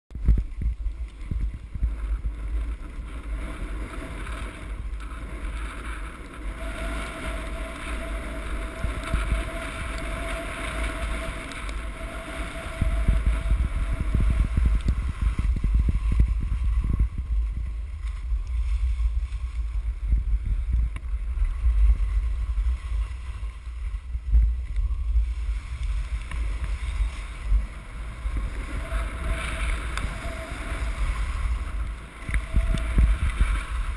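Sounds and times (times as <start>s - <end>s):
skis sliding on packed snow: 0.1s - 33.9s
wind buffeting microphone: 0.1s - 33.9s.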